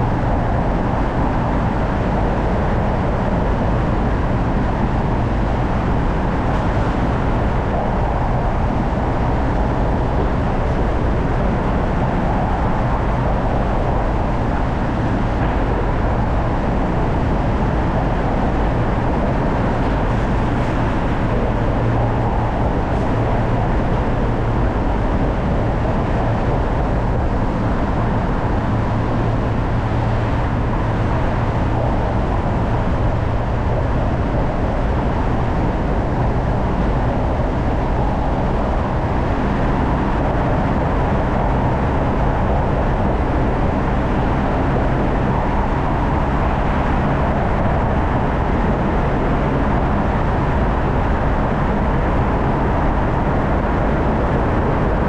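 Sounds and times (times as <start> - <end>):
low engine hum: 0.0 - 55.0
road and tyre noise: 0.0 - 55.0.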